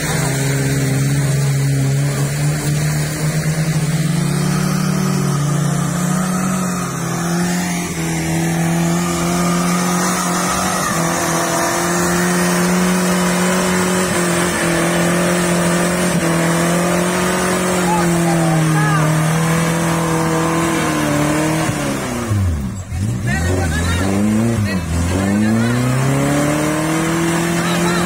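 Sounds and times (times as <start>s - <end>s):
engine at high revs under load: 0.0s - 28.0s.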